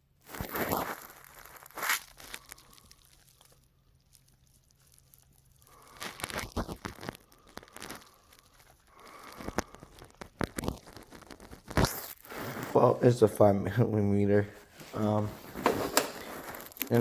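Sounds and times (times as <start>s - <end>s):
rustling: 0.1s - 13.3s, 14.4s - 17.0s.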